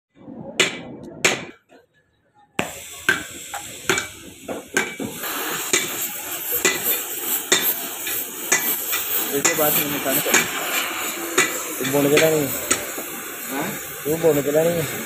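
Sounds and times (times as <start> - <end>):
gas torch flame hissing: 2.6 - 15.0.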